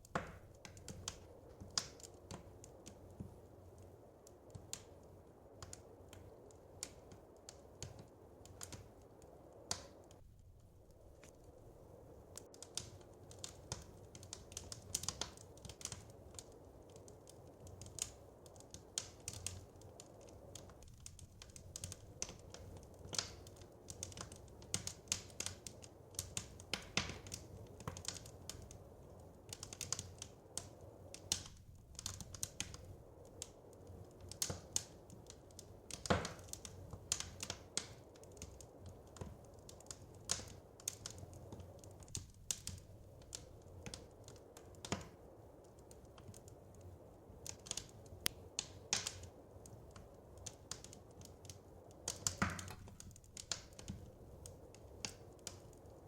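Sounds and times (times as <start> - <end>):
low hiss of flames: 0.0 - 56.0
wood fire snaps and pops: 0.0 - 56.0.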